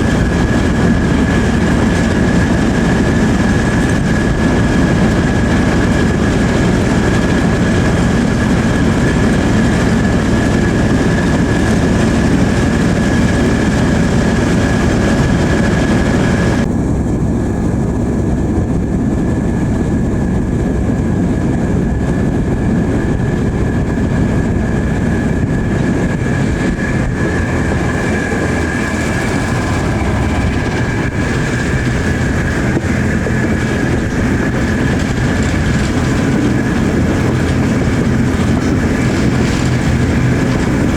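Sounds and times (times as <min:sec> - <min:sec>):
train wheels clattering on rails: 0:00.0 - 0:16.7, 0:19.5 - 0:40.9.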